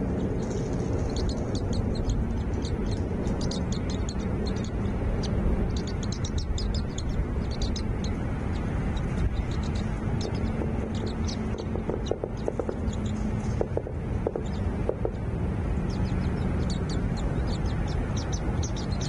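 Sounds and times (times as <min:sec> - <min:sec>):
steady low rumble: 0:00.2 - 0:19.0
small birds chirping: 0:00.5 - 0:13.2, 0:14.4 - 0:14.7, 0:15.8 - 0:19.0.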